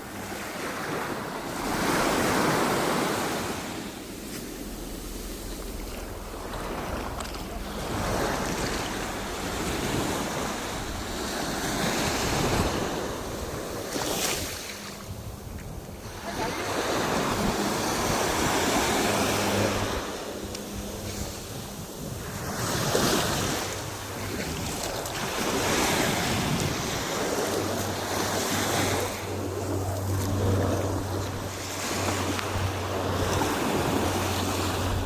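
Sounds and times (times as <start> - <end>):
sea waves breaking on shore: 0.0 - 35.0
wind buffeting microphone: 1.6 - 35.0.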